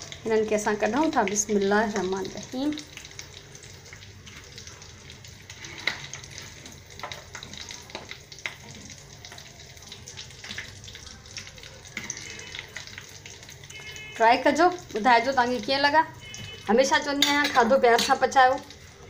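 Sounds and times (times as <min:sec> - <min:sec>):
hot oil sizzling and crackling: 0:00.0 - 0:19.0.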